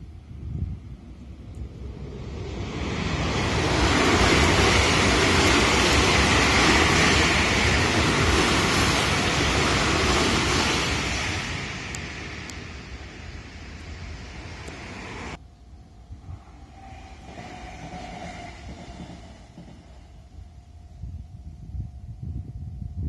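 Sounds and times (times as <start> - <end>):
train passing: 0.0 - 23.0.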